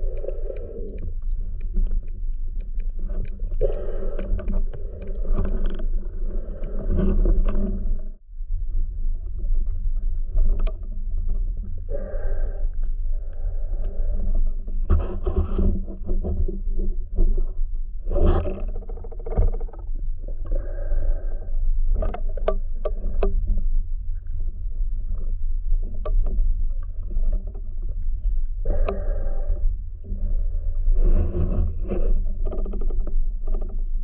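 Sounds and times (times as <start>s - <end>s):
muffled underwater rumble and scraping: 0.0s - 34.0s.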